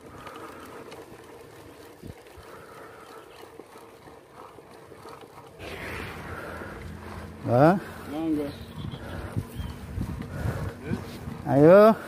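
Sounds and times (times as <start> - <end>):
bike rattles and clicks: 0.0 - 12.0
bike tyres and drivetrain rumbling: 0.0 - 12.0.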